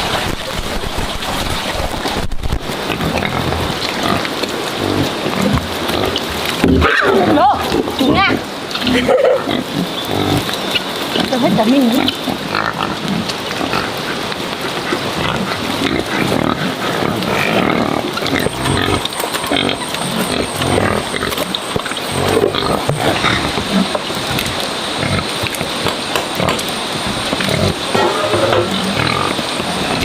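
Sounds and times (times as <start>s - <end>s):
pigs grunting: 2.7s - 30.0s.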